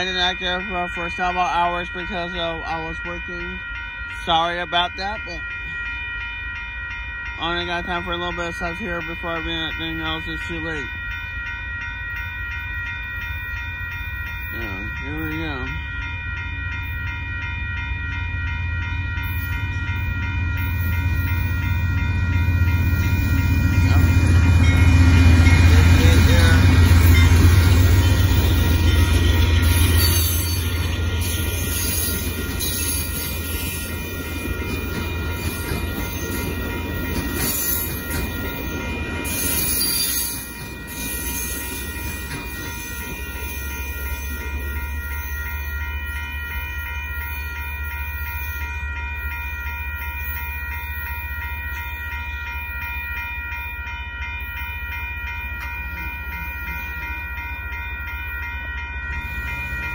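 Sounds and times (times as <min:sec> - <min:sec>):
railroad crossing bell ringing: 0:00.0 - 0:59.9
train cars rumbling over rails: 0:00.0 - 0:59.9.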